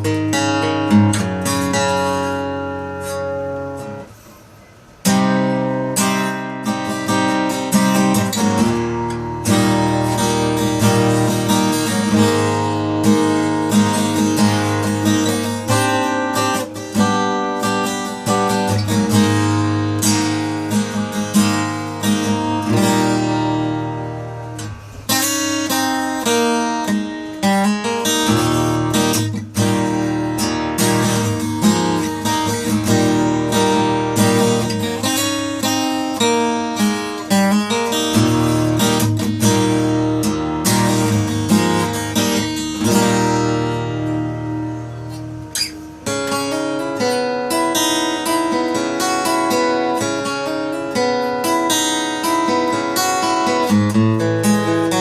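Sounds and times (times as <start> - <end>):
acoustic guitar strumming and picking: 0.0 - 55.0.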